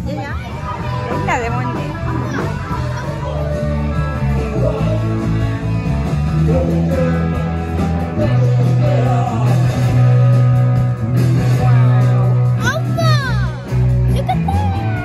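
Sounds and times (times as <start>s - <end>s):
steady bass line: 0.0s - 15.0s
song with guitar and singing: 0.4s - 15.0s.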